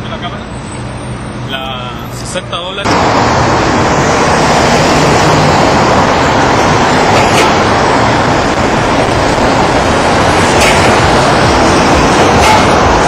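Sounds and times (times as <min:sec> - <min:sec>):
city street traffic roar: 0:00.0 - 0:13.0.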